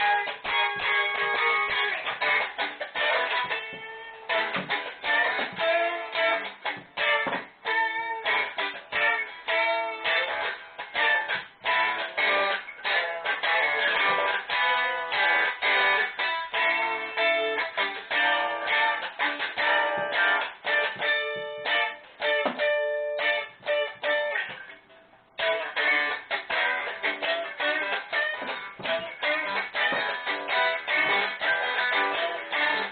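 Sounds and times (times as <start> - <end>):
guitar plucked notes: 0.0 - 32.9.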